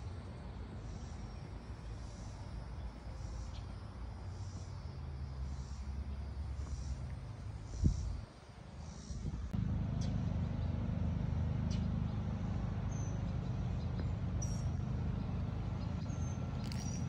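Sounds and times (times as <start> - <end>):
birds chirping: 0.8 - 10.8, 11.6 - 17.0.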